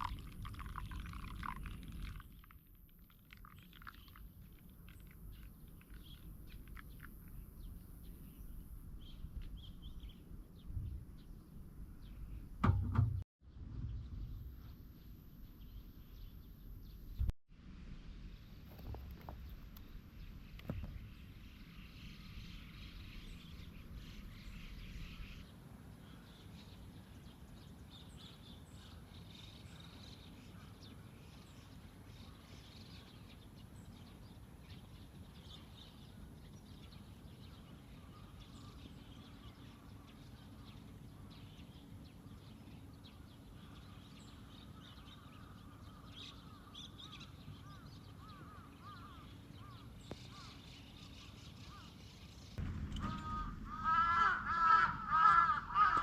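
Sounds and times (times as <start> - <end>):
small birds chirping: 0.0 - 12.6, 18.6 - 56.0.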